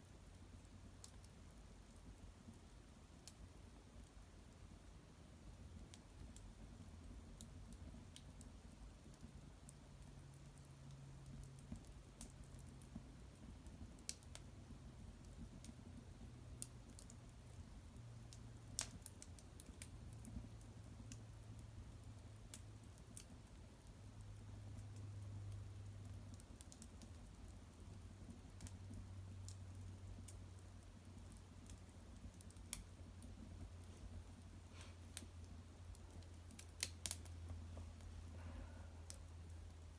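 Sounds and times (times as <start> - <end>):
low steady hum: 0.0 - 39.9
wood fire crackling and popping: 0.0 - 39.9.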